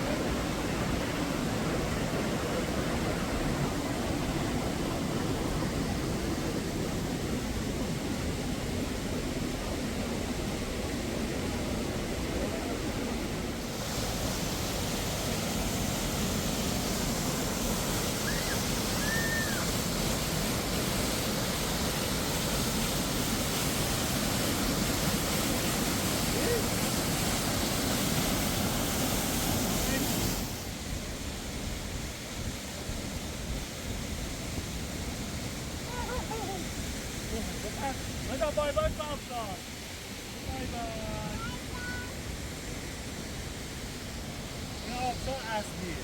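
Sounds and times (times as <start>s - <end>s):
waterfall roaring: 0.0s - 46.0s.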